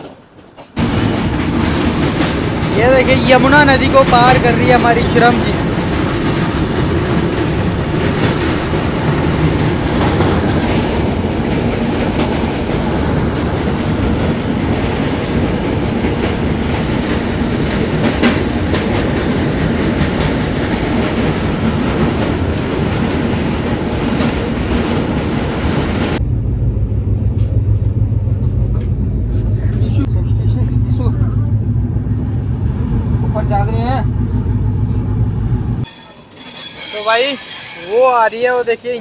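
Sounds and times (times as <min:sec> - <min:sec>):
low hum inside train coach: 0:00.0 - 0:39.0
train wheel and track noise: 0:00.0 - 0:39.0.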